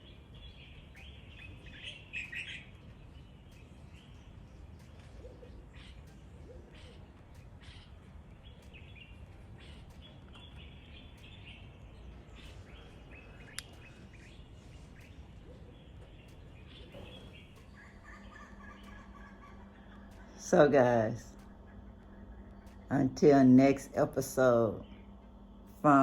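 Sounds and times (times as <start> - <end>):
birds chirping: 0.0 - 26.0
low background hum: 0.0 - 26.0.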